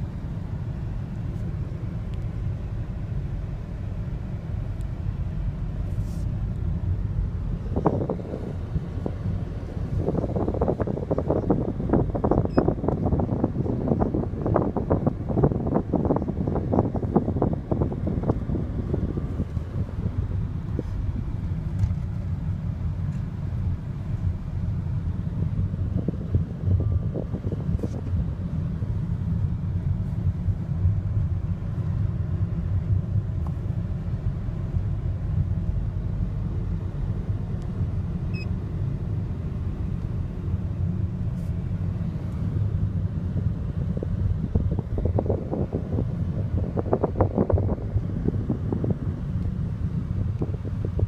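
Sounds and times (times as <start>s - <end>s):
road and engine rumble in car: 0.0s - 51.0s.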